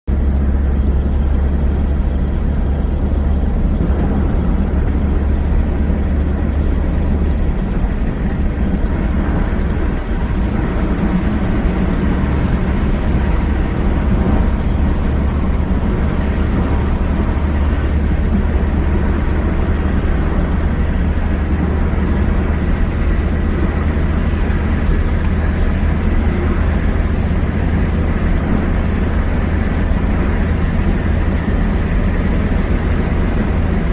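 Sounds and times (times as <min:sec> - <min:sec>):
vehicle engine and tyre rumble: 0:00.0 - 0:33.9.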